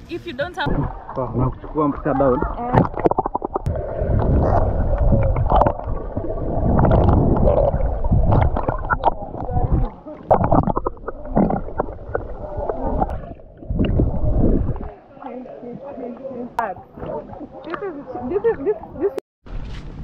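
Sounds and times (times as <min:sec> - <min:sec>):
muffled underwater water sloshing: 0:00.6 - 0:19.2
swimming knocks and swishes: 0:00.6 - 0:20.0.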